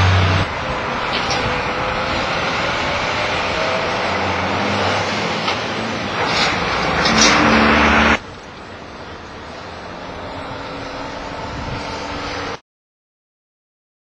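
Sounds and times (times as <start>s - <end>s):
truck engine and tyres passing: 0.0s - 12.6s.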